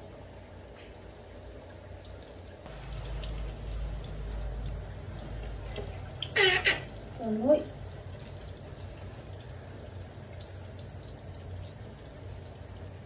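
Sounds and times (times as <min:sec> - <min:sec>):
water dripping: 0:00.0 - 0:13.0.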